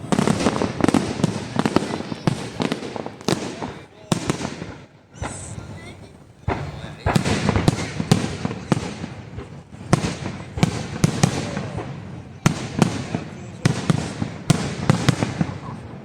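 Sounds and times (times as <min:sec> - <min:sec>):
firework bangs: 0:00.0 - 0:16.0
fireworks crackling: 0:00.0 - 0:16.0.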